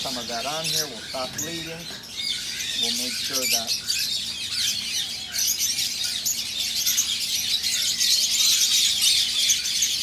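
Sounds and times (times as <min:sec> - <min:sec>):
flock of lovebirds chattering: 0:00.0 - 0:10.0.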